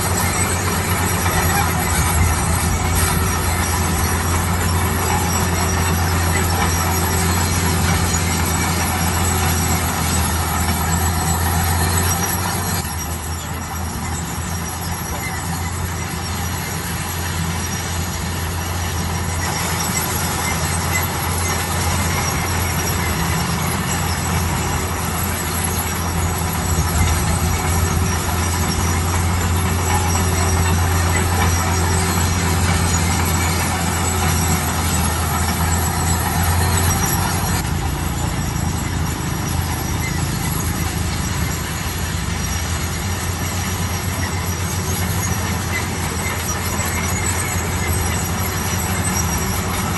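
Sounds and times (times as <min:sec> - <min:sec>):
diesel engine drone: 0:00.0 - 0:49.9
metallic squealing and clatter: 0:00.0 - 0:49.9.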